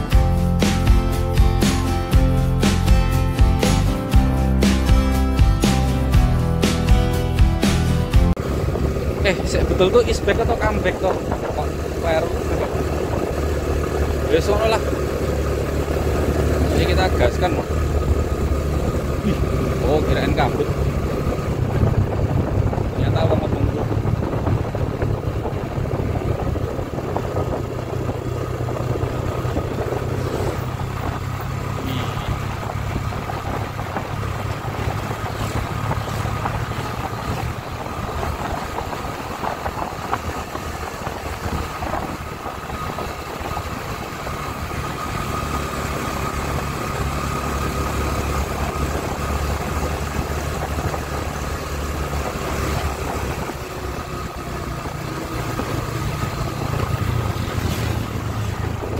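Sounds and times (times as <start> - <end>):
scooter engine running: 5.6 - 58.9.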